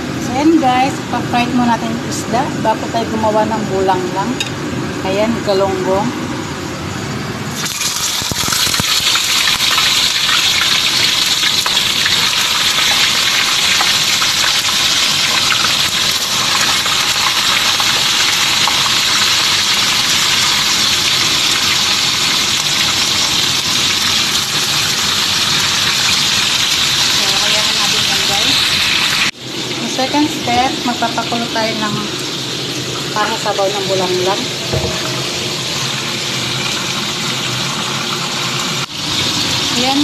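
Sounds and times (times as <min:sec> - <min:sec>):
fish sizzling in hot oil: 0:07.6 - 0:40.0.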